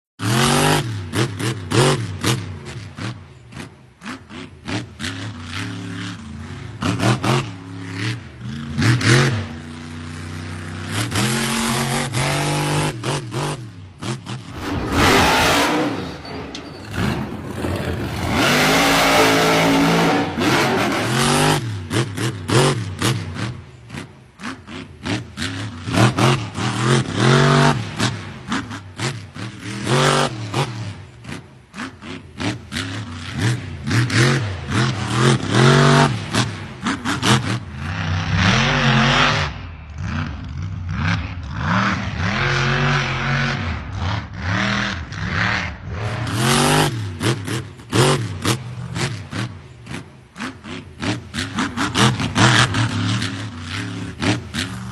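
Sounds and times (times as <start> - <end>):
truck engine revving: 0.2 - 54.9.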